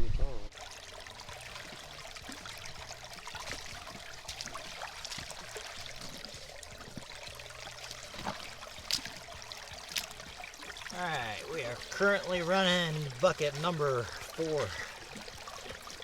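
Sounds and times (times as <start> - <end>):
creek water running: 0.5 - 16.0.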